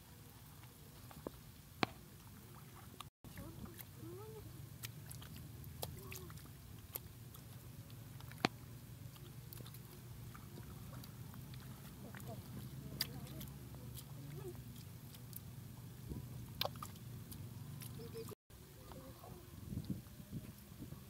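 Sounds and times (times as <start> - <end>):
wet mud squelching: 0.4 - 18.4.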